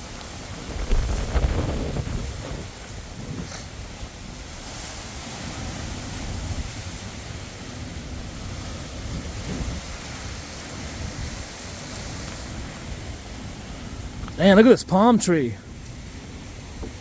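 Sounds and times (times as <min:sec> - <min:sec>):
wind buffeting microphone: 0:00.0 - 0:14.4, 0:15.7 - 0:17.0.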